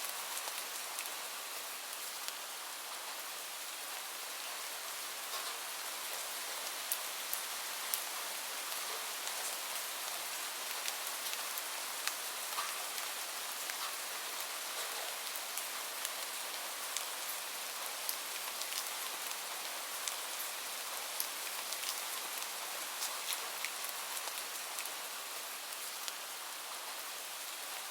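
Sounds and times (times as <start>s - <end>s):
steady rain: 0.0s - 27.9s.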